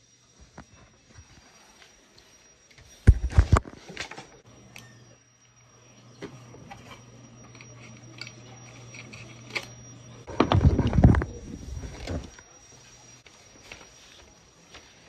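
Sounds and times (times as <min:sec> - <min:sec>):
low steady hum: 0:00.1 - 0:14.8.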